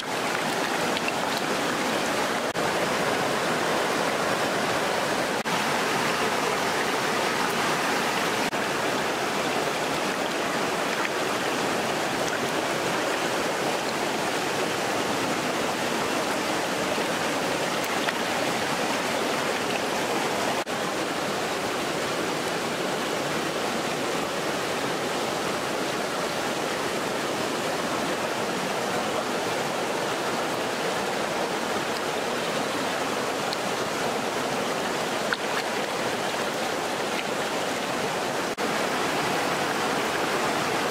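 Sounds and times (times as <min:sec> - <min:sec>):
stream water rushing over rock: 0:00.0 - 0:40.9.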